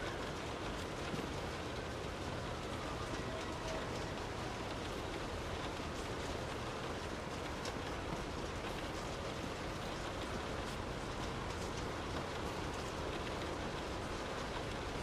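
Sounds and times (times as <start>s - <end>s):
rain falling: 0.0s - 15.0s
raindrops pattering on a surface: 0.0s - 15.0s.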